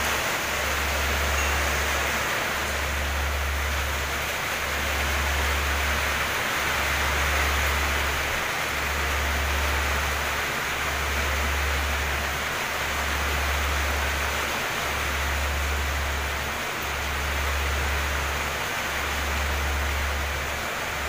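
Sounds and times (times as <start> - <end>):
heavy rain pouring: 0.0 - 21.0
low steady rumble: 0.0 - 21.0.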